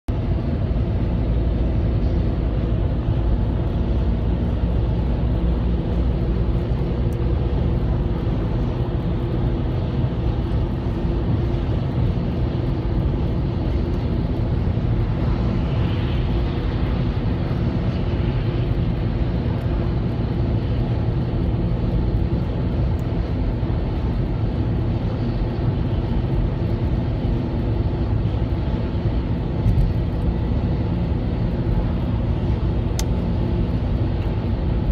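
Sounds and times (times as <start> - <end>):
deep engine drone: 0.1 - 34.9
road noise: 0.1 - 34.9.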